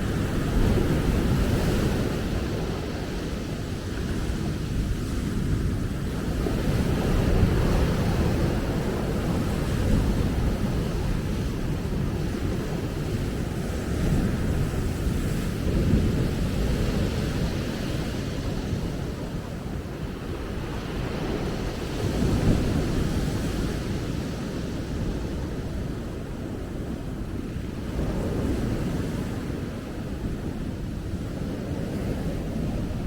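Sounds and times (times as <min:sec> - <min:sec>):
ocean waves washing onto beach: 0:00.0 - 0:33.0
wind rumbling on microphone: 0:00.0 - 0:33.0.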